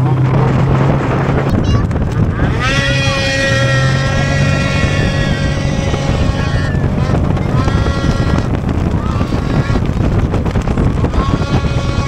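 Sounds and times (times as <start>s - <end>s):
snowmobile engine whine: 0.0s - 12.0s.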